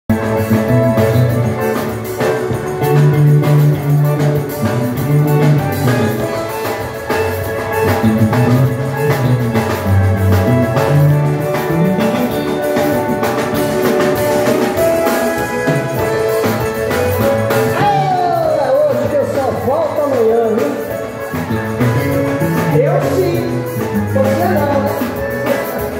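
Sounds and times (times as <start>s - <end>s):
live dance band playing: 0.1s - 25.9s.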